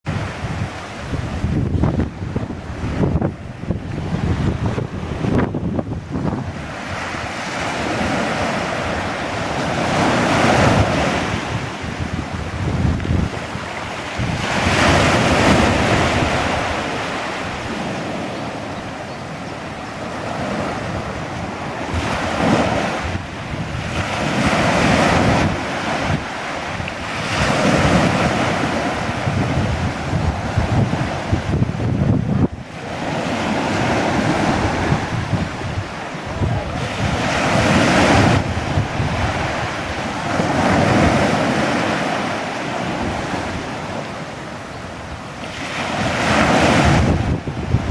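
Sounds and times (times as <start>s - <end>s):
sea waves breaking on a beach: 0.0s - 47.9s
wind buffeting the microphone: 0.0s - 47.9s.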